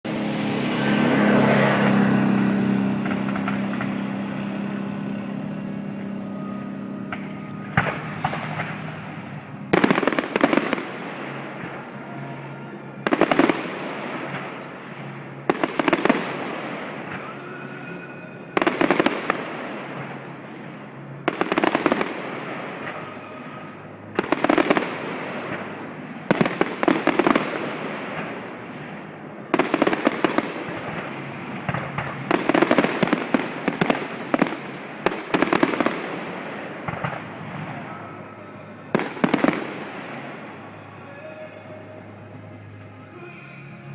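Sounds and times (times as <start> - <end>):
low hum: 0.0 - 43.9
fireworks popping and crackling: 0.8 - 43.9.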